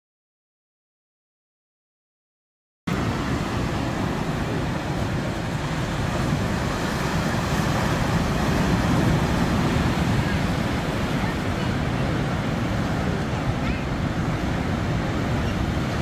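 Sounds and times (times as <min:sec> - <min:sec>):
surf breaking on beach: 0:02.9 - 0:16.0.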